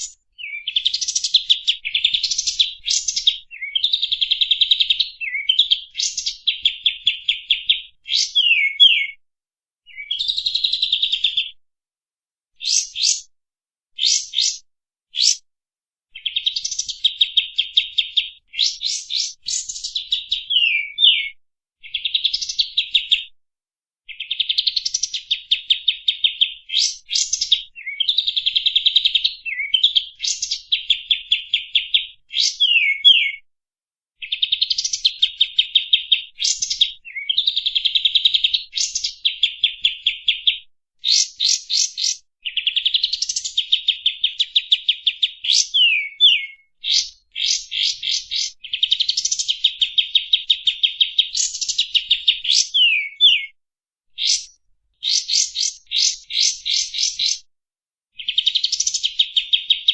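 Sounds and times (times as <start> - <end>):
songbirds singing trills and whistles: 0.0 - 9.2, 9.9 - 11.6, 12.6 - 13.3, 14.0 - 14.6, 15.2 - 15.4, 16.2 - 23.3, 24.1 - 33.4, 34.2 - 53.6, 54.2 - 57.5, 58.2 - 59.9.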